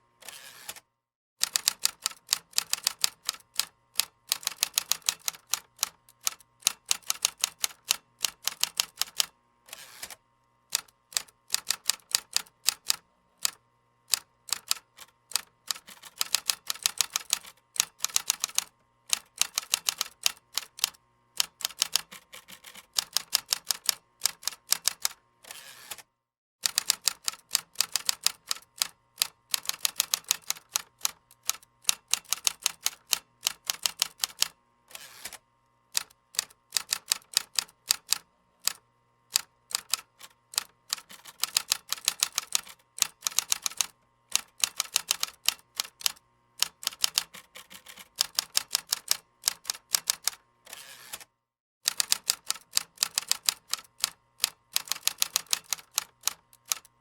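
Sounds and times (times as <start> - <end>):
keyboard typing: 1.4 - 9.3, 11.1 - 25.2, 26.6 - 34.5, 39.4 - 50.4, 51.9 - 56.9.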